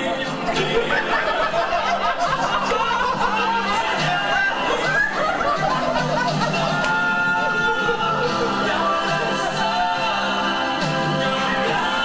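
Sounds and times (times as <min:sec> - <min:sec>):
music playing: 0:00.0 - 0:12.0
people laughing and talking: 0:00.0 - 0:12.0.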